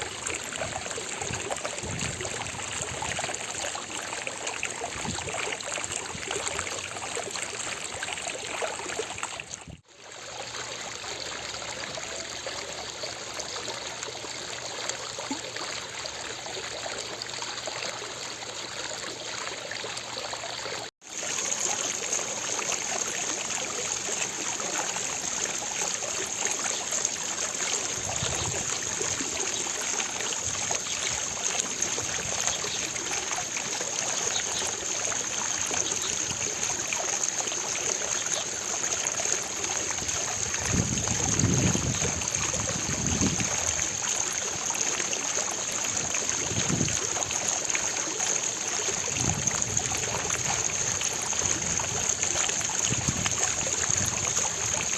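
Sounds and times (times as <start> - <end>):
fountain water splashing: 0.0 - 54.9.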